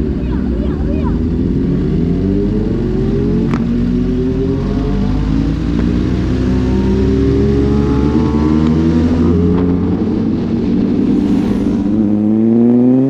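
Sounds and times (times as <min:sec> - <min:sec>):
motorcycle engine accelerating: 0:01.2 - 0:12.7.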